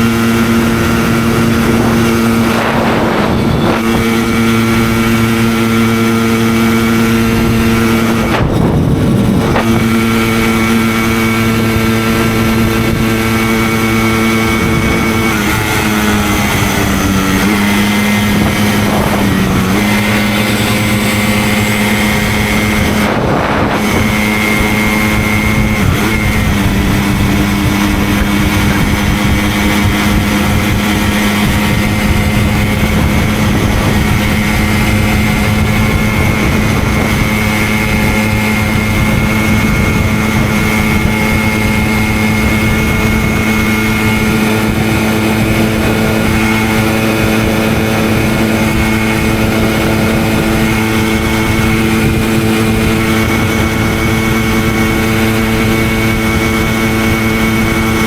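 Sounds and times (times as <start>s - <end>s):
moped engine running: 0.0s - 58.0s.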